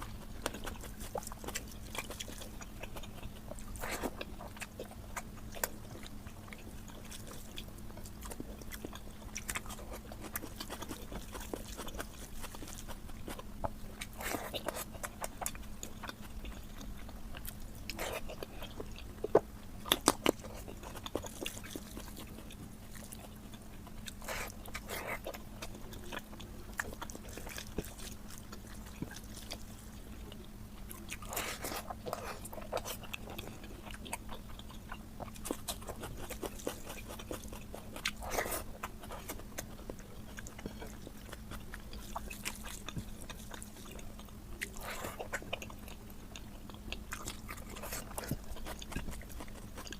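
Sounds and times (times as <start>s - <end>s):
person chewing: 0.0s - 49.9s
steady low hum: 0.0s - 49.9s.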